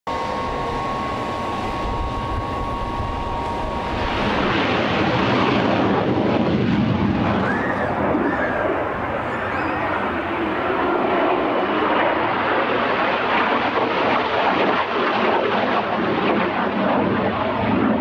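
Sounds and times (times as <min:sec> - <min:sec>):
jet takeoff roar: 0:00.1 - 0:18.0
turbojet whine: 0:00.1 - 0:18.0.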